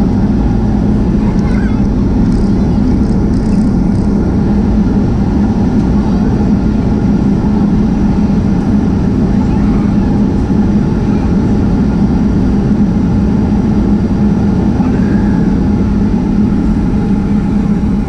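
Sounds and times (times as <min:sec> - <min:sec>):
jet engines and airframe rush: 0:00.0 - 0:18.0
low hum: 0:00.0 - 0:18.0.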